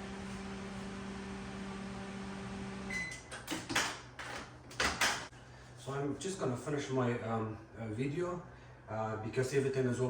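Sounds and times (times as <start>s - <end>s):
microwave oven humming: 0.0s - 10.0s.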